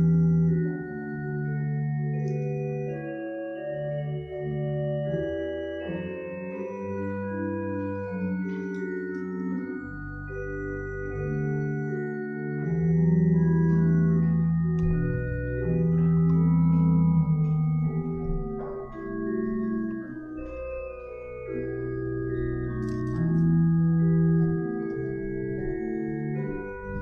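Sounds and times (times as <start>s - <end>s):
church organ chords: 0.0s - 27.0s.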